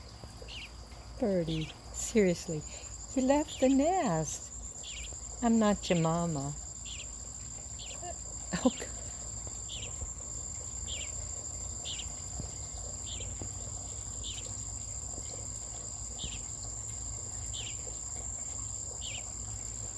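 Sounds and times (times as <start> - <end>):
crickets trilling: 0.0 - 19.9.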